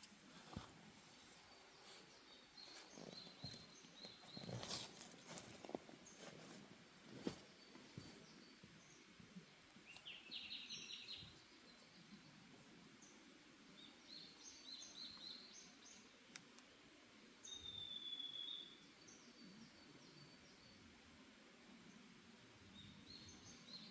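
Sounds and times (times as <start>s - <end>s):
forest birds chirping: 0.0s - 21.0s, 22.7s - 23.9s.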